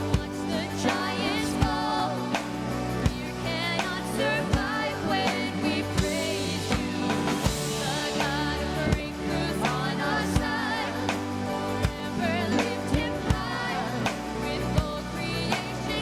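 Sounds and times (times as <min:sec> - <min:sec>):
band playing chords: 0:00.0 - 0:16.0
person singing with vibrato: 0:00.0 - 0:16.0.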